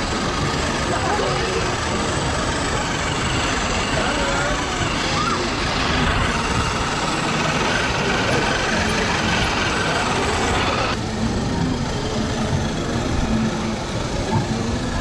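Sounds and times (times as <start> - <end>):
toy trucks rumbling over asphalt: 0.0 - 15.0.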